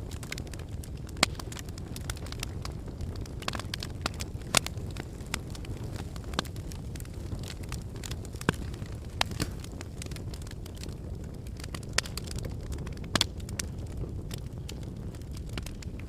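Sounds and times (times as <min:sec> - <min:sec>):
fire crackling and popping: 0:00.0 - 0:16.0
wood fire flames rumbling: 0:00.0 - 0:16.0.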